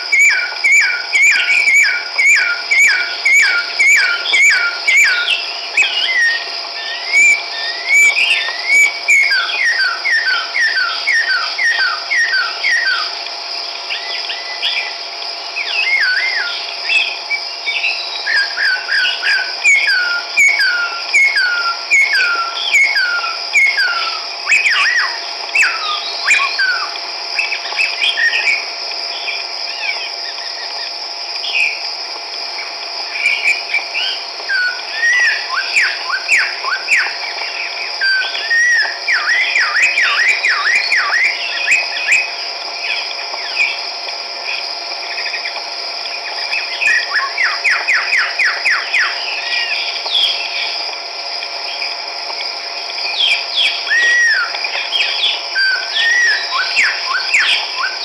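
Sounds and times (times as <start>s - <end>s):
bird singing whistled notes: 0.0s - 31.8s, 33.1s - 43.9s, 46.2s - 50.8s, 53.0s - 58.0s
steady high-pitched buzz: 0.0s - 58.0s.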